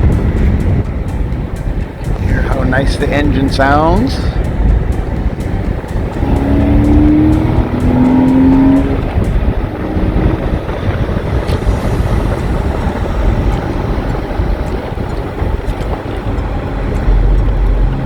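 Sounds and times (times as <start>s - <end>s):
car engine accelerating: 0.0s - 18.0s
road noise: 0.0s - 18.0s.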